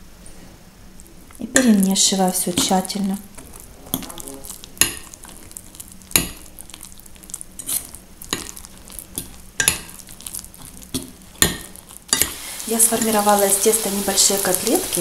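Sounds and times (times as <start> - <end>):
utensil stirring thick dough: 1.2 - 15.0.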